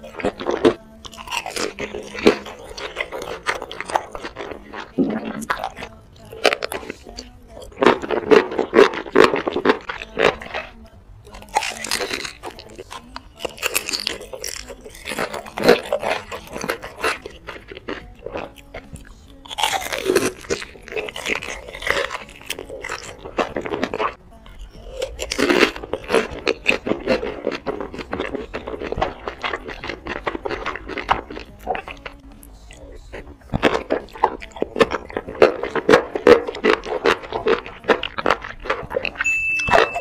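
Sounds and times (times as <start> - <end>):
crackly mouth clicks: 0.0 - 40.0
wet crunchy chewing: 0.0 - 40.0.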